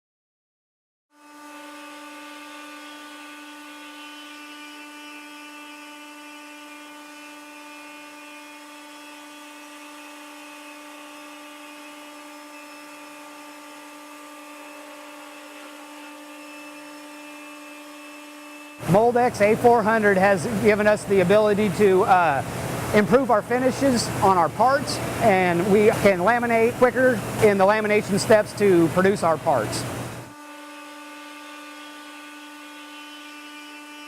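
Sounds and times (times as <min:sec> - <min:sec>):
machine whining: 0:01.2 - 0:34.0.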